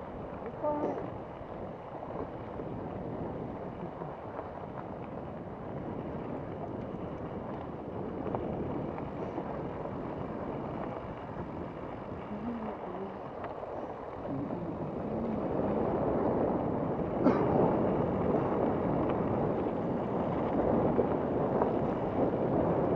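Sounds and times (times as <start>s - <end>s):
bike tyre rolling on dirt: 0.0s - 22.9s
wind on microphone: 0.0s - 22.9s.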